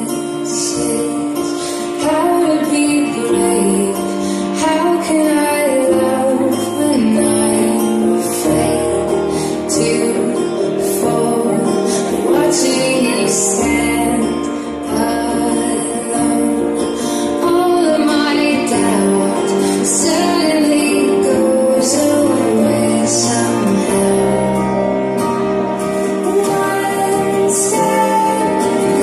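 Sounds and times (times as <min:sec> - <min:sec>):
woman singing over held chords: 0:00.0 - 0:29.0.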